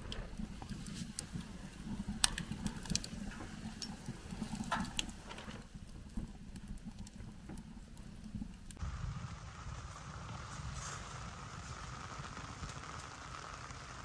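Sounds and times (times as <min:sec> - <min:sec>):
low steady rumble: 0:00.0 - 0:12.9
wood fire crackling: 0:00.0 - 0:14.0.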